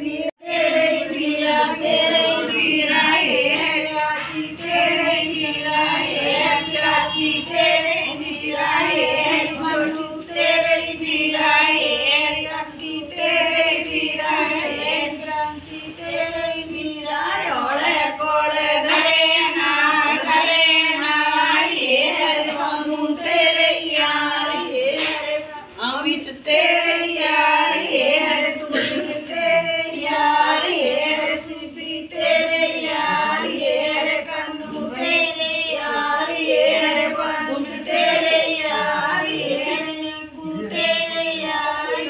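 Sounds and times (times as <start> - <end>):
women singing a folk song: 0.0 - 42.0.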